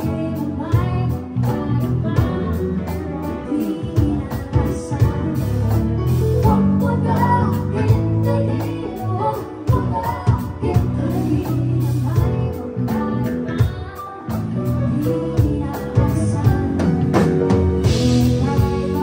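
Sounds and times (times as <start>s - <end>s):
drum kit beat: 0.0s - 19.0s
electric bass: 0.0s - 19.0s
electric guitar: 0.0s - 19.0s
woman singing: 0.0s - 19.0s.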